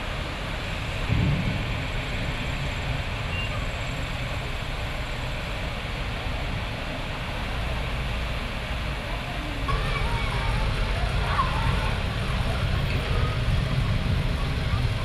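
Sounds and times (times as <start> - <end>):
low rumble of traffic: 0.0 - 15.0
rain and tyres on wet road: 0.0 - 15.0.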